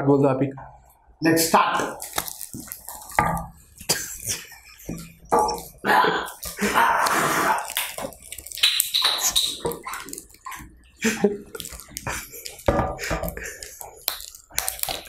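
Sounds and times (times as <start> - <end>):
slurps and gulps: 1.8 - 15.0.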